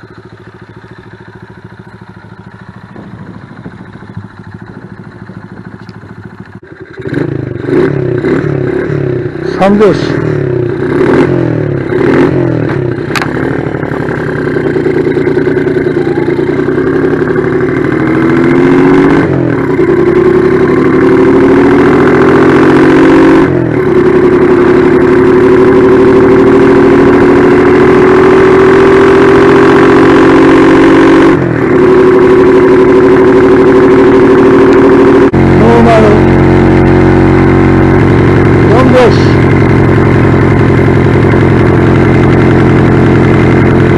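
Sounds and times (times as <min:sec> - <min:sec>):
motorcycle exhaust loping: 0:00.0 - 0:43.9.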